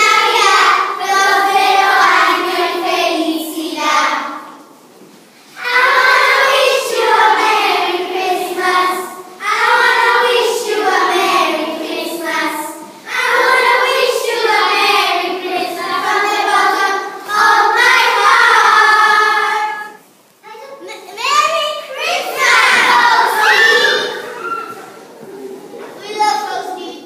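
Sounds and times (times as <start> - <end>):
children singing together: 0.0 - 4.8, 5.5 - 20.1, 22.0 - 26.0.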